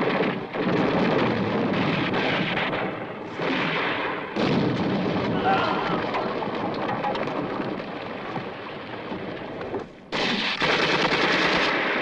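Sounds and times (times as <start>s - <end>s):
gunfire and blasts: 0.0s - 9.5s, 10.1s - 12.0s.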